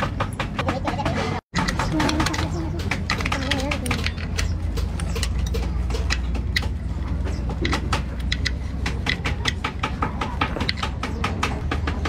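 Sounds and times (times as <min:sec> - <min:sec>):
diesel engine rumbling: 0:00.0 - 0:12.0
sharp clicks and knocks: 0:00.0 - 0:12.0.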